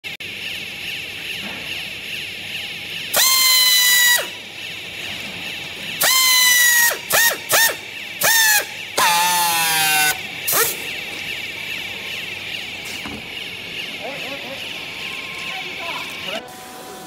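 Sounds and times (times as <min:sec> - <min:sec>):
pneumatic tool whirring: 0:00.7 - 0:17.0.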